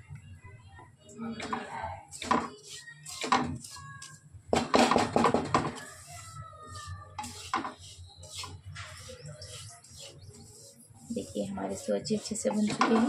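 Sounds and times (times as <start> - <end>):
wooden spatula scraping metal pan: 1.4 - 13.0.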